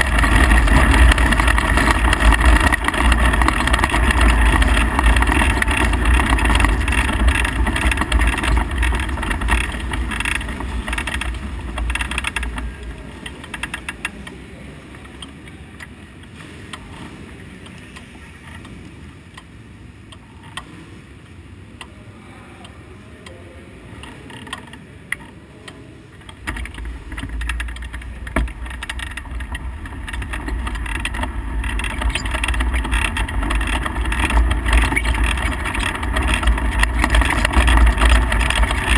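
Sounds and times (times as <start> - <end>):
race car engine running hard: 0.0 - 24.7, 25.5 - 38.9.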